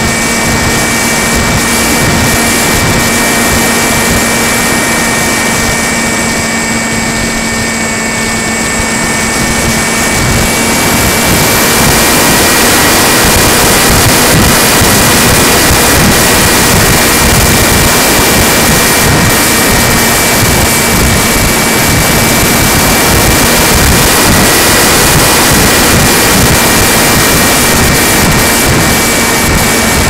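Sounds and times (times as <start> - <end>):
model plane electric motor whine: 0.0 - 30.0
rushing air noise: 0.0 - 30.0.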